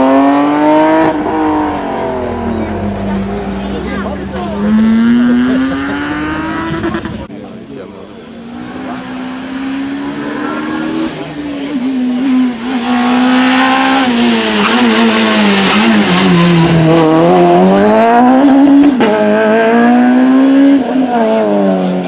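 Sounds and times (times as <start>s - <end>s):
rally car engine accelerating: 0.0s - 7.3s, 8.1s - 22.0s.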